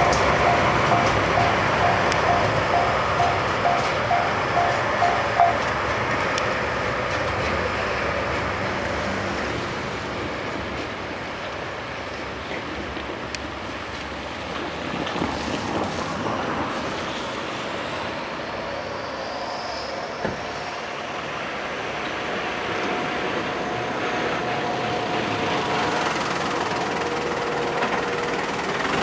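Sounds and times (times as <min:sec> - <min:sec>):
diesel locomotive engine: 0:00.0 - 0:29.0
train wheels rumbling: 0:00.0 - 0:29.0.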